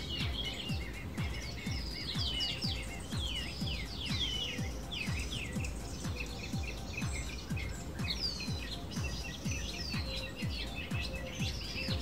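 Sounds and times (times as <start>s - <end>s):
background music with low beat: 0.0s - 12.0s
birds chirping and twittering: 0.0s - 12.0s.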